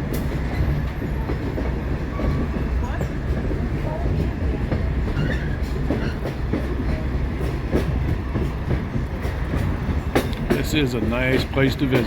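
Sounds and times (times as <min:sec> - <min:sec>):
train wheels rumbling on rail: 0:00.0 - 0:12.0
wheels and couplings squeaking: 0:00.0 - 0:12.0.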